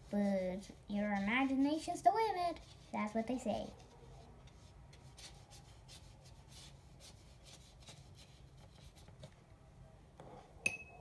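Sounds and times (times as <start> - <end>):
paintbrush scratching on paper: 0.0 - 9.2.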